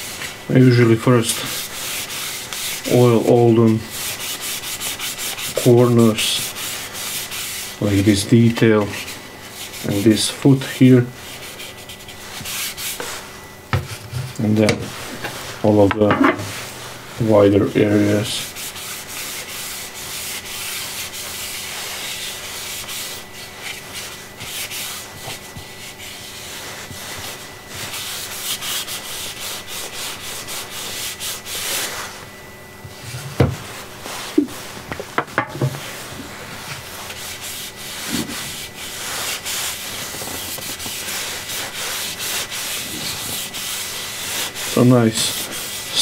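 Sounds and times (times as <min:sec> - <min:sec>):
applicator rubbing on wood: 0:01.2 - 0:32.3, 0:32.9 - 0:46.0.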